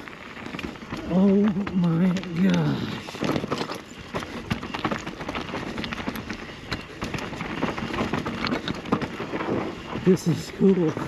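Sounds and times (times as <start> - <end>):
bike rattling over bumps: 0.0 - 11.0
tyres crunching over dirt and rocks: 0.0 - 11.0.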